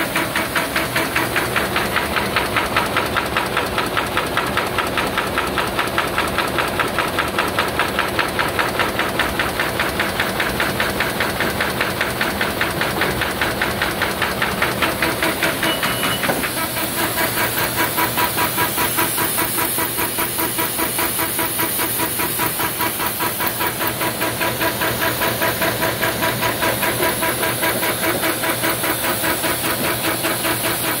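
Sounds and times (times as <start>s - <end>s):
paper folder rollers beating: 0.0s - 31.0s.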